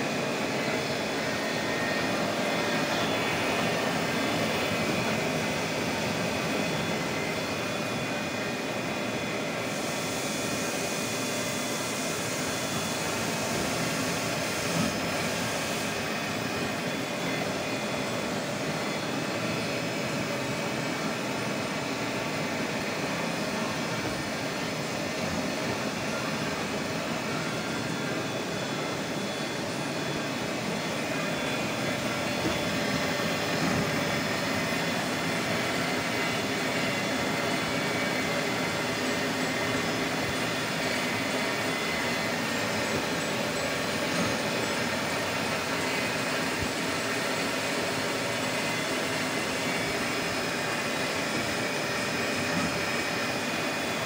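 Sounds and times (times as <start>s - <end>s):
milling machine whining: 0.0s - 54.0s.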